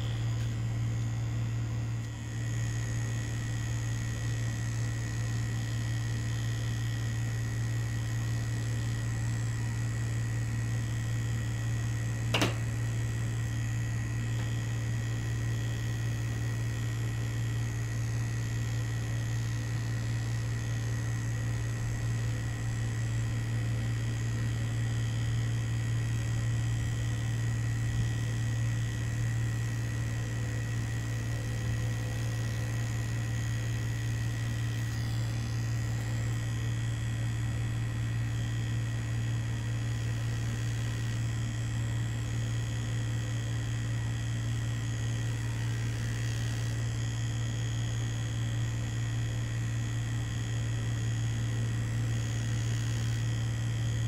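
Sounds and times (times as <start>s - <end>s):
tattoo machine buzzing: 0.0s - 54.0s.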